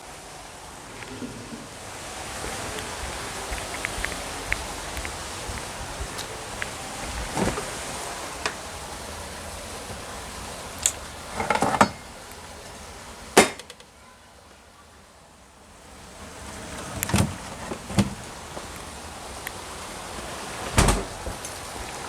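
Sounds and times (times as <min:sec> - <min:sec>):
low steady hiss: 0:00.0 - 0:22.0.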